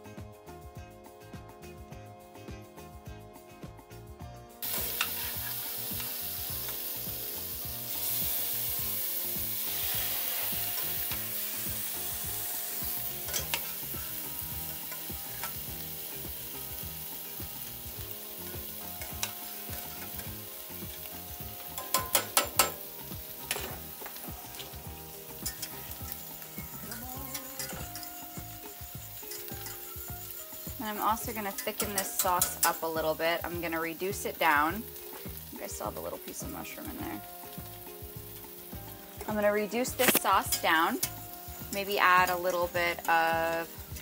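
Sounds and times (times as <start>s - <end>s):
mushrooms sizzling in a skillet: 4.6s - 44.0s.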